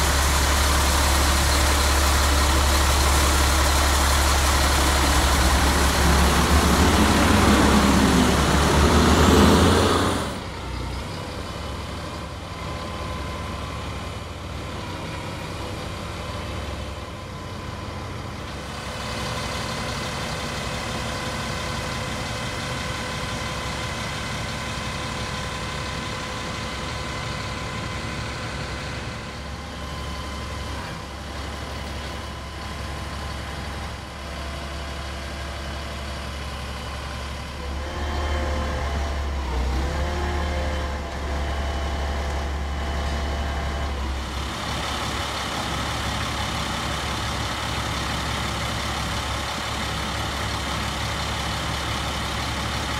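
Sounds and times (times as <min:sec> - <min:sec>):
diesel truck engine idling: 0:00.0 - 0:52.9.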